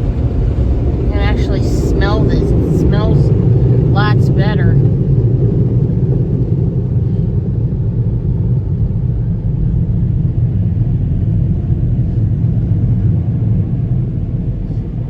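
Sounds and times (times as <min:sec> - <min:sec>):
car wash equipment rumbling: 0:00.0 - 0:15.0.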